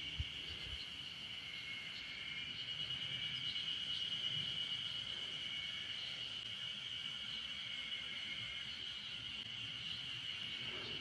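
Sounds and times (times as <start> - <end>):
higher insect calls: 0.0 - 11.0
insects droning: 0.0 - 11.0.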